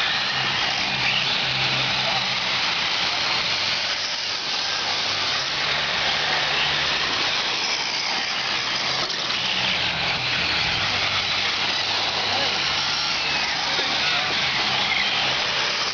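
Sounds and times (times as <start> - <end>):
racing engines droning: 0.0 - 15.9
steady hiss: 0.0 - 15.9.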